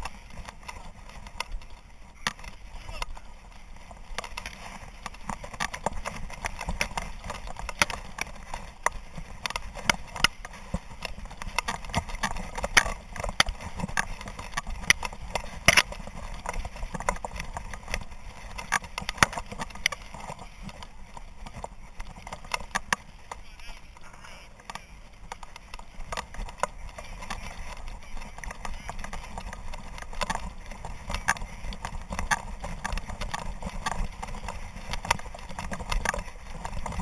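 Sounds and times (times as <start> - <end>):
dry grass rustling against camera: 0.0 - 37.0
gear jostling: 0.0 - 37.0.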